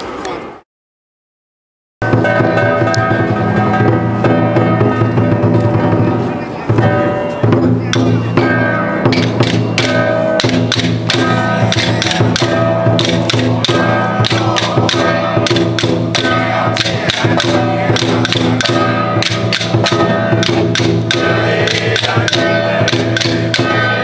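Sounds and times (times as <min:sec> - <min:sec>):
quick percussion strikes: 0:02.0 - 0:24.0
sustained melodic notes: 0:02.0 - 0:24.0.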